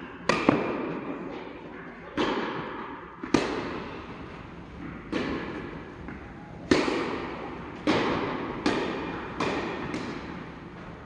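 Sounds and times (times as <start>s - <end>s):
tennis ball struck and bouncing: 0.2s - 1.1s, 2.2s - 11.0s.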